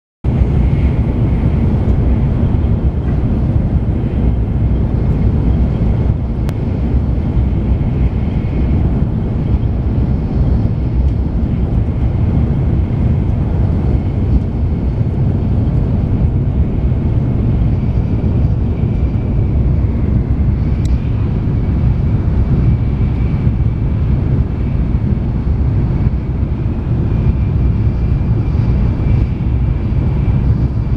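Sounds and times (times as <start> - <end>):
train rumble inside cabin: 0.2 - 30.9.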